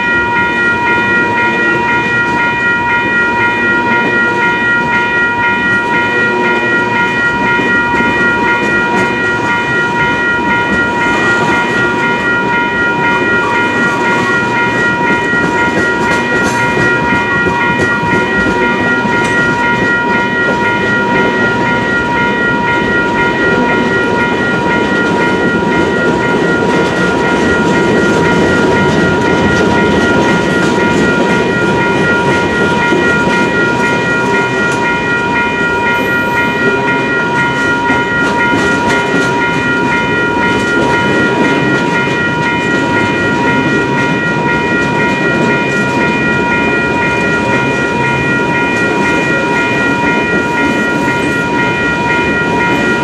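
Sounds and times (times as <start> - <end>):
electronic crossing bells ringing: 0.0 - 53.0
freight train cars rolling: 0.0 - 53.0.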